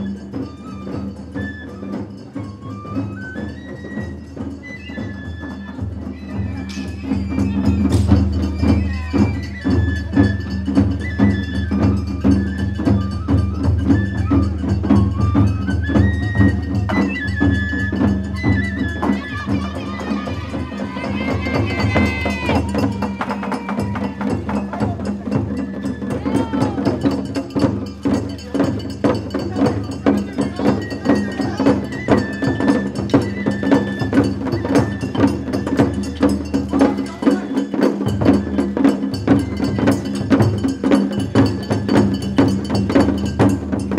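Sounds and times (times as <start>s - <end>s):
bamboo flute melody: 0.0s - 43.9s
quick drum beats: 0.0s - 43.9s.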